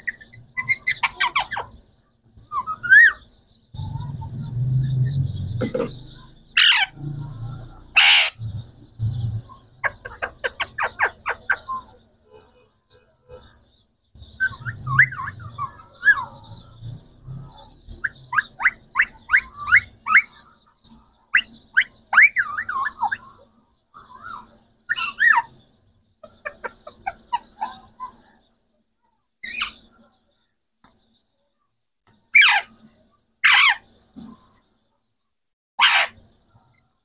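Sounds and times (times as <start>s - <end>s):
parrots chirping and squawking: 0.0s - 28.5s, 29.4s - 30.0s, 32.2s - 34.6s, 35.8s - 36.8s.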